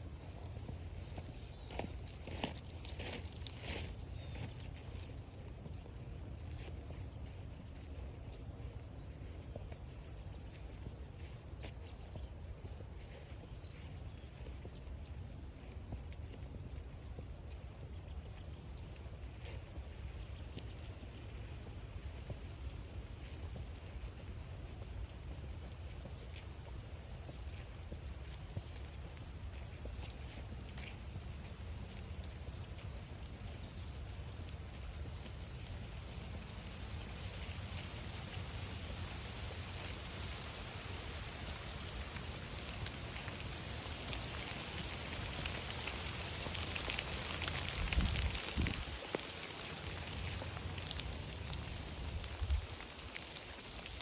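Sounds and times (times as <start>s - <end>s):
footsteps on wet trail: 0.0s - 54.0s
light ticks of rain: 0.0s - 54.0s
low rumble of rain: 0.0s - 54.0s.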